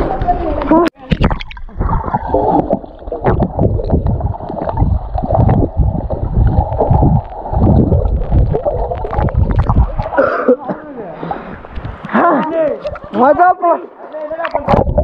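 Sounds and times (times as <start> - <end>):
muffled water splashing: 0.0 - 15.0.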